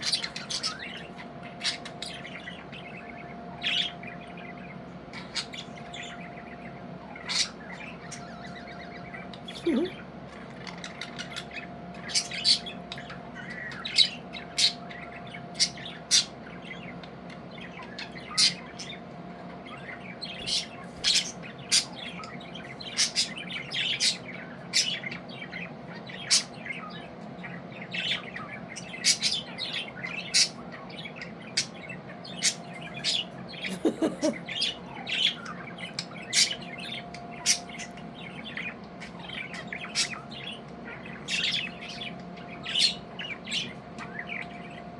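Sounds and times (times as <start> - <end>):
budgies chirping and squawking: 0.0 - 44.9.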